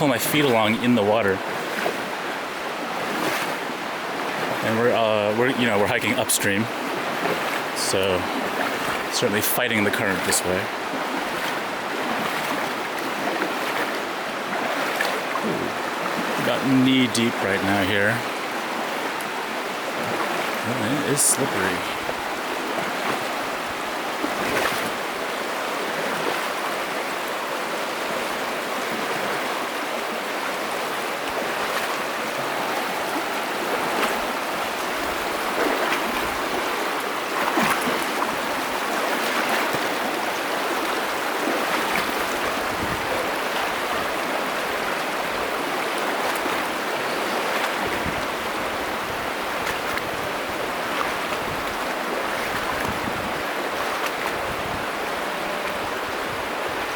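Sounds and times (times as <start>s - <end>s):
river water rushing: 0.0s - 56.9s
legs sloshing through water: 0.1s - 56.9s
water splash: 4.3s - 18.2s, 18.8s - 27.0s, 30.5s - 56.0s.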